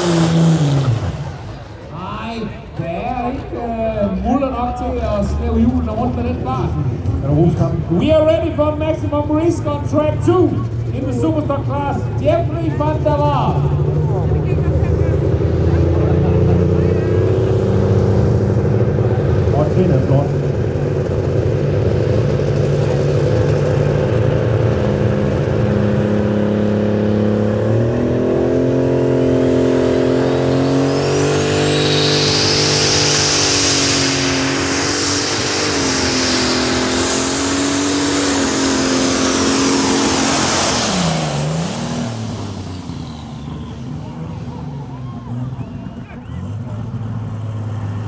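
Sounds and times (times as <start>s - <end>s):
high turbo whine: 0.0s - 48.0s
tractor engine under full load: 0.0s - 48.0s.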